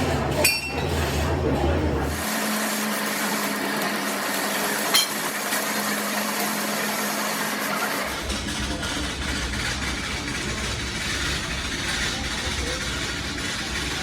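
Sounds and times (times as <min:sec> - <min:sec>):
machine humming and hissing: 0:02.0 - 0:14.0.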